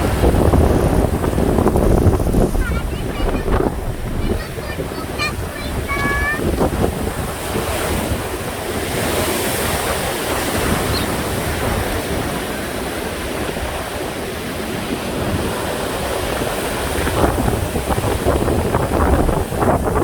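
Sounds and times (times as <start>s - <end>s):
sea surf breaking: 0.0s - 20.0s
wind buffeting microphone: 0.0s - 20.0s.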